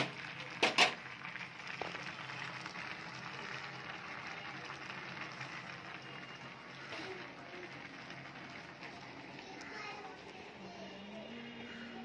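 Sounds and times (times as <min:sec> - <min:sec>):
food sizzling on stove: 0:00.0 - 0:12.0.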